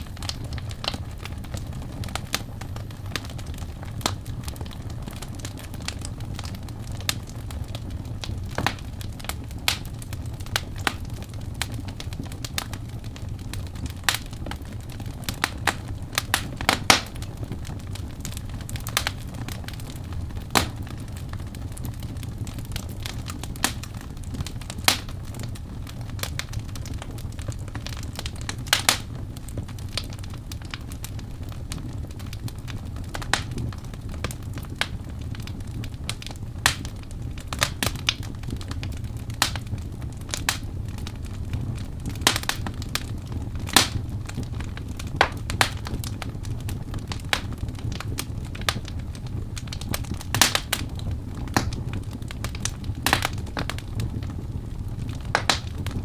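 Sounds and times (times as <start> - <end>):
wood crackling and popping: 0.0 - 56.0
wood fire rumbling: 0.0 - 56.0.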